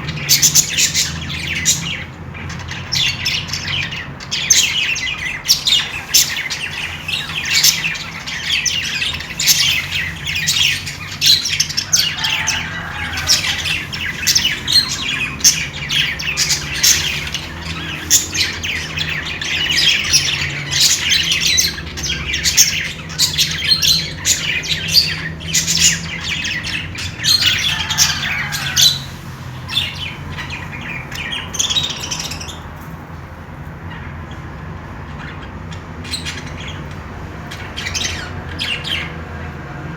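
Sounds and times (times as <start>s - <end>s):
budgerigars chirping: 0.0s - 39.8s.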